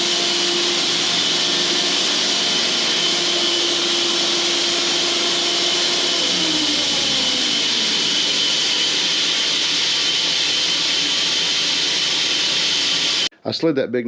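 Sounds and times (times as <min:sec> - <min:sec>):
sawmill engine: 0:00.0 - 0:13.3.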